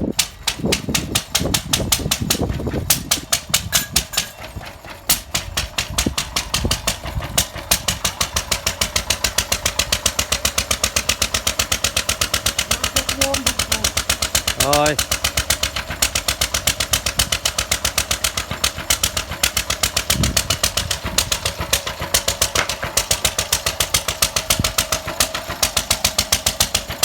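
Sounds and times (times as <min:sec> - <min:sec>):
stationary engine chugging: 0:00.0 - 0:27.0.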